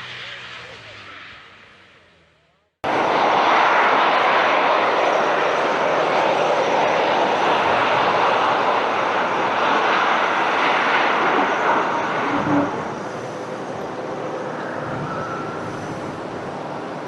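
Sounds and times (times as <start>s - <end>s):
airplane engines rushing: 0.0s - 17.0s.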